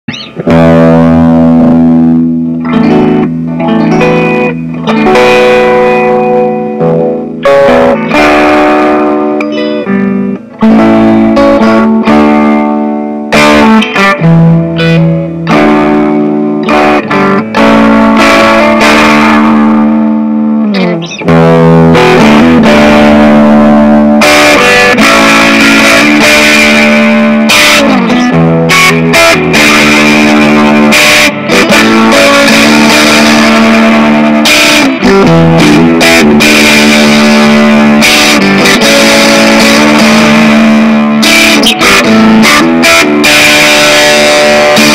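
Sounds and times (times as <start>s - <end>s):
electric guitar riff: 0.0s - 44.9s.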